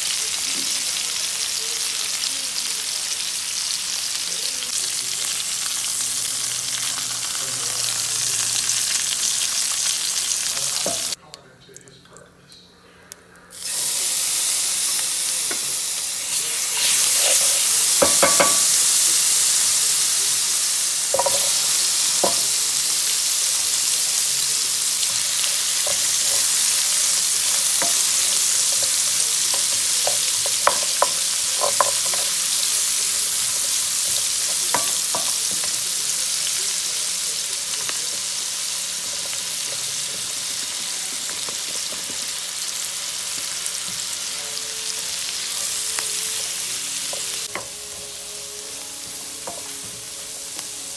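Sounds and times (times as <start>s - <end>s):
onions sizzling in a pan: 0.0s - 11.2s, 13.5s - 50.9s.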